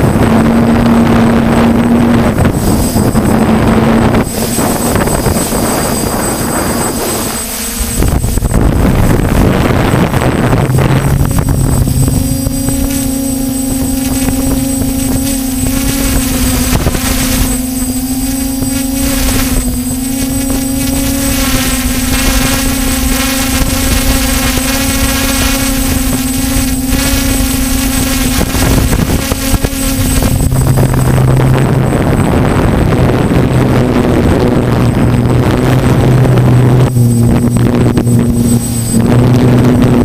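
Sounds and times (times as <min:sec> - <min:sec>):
drone motors humming: 0:00.0 - 0:40.0.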